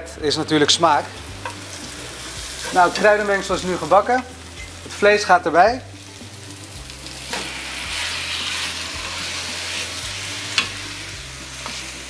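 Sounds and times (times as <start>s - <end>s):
beef sizzling in a hot pan: 0.7s - 12.0s.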